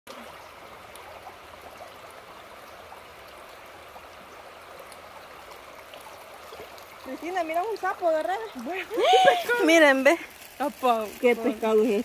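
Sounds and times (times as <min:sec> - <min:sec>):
creek water rippling over stones: 0:00.1 - 0:12.0.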